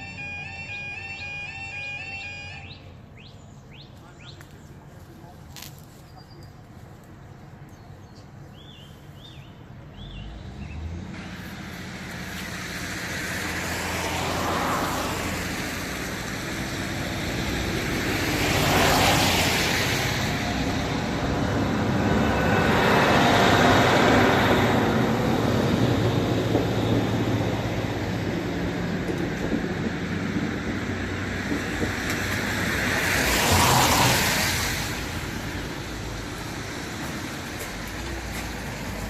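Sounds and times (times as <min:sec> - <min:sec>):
vehicles passing by: 0:00.0 - 0:39.0.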